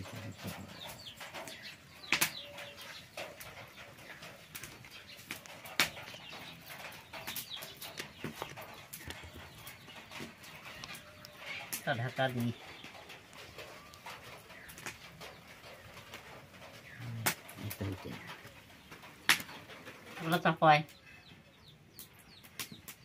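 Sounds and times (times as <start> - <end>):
leaves crackling: 0.0 - 20.9.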